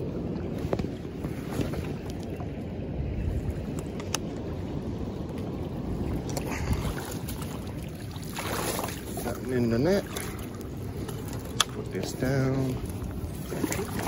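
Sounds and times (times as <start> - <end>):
rushing river water: 0.0 - 14.0.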